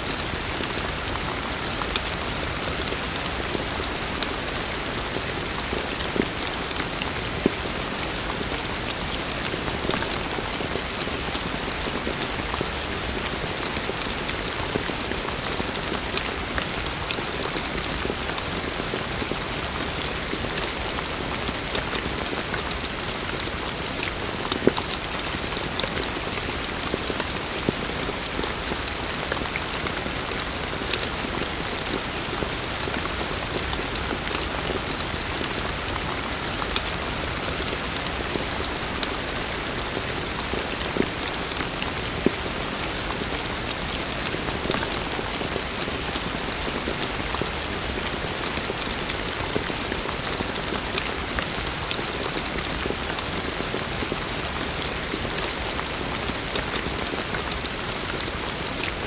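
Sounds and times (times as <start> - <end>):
raindrops ticking close by: 0.0 - 59.0.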